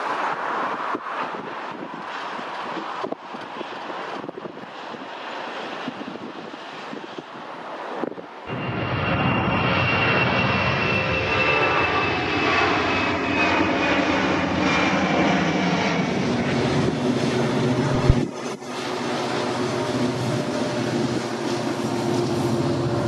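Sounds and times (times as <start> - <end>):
jet engines rumbling with whine: 0.0 - 23.0.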